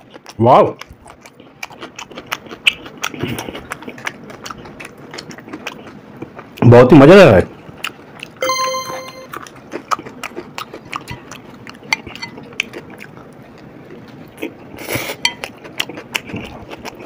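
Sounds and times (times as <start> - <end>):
people chewing: 0.0 - 6.6, 9.5 - 17.0.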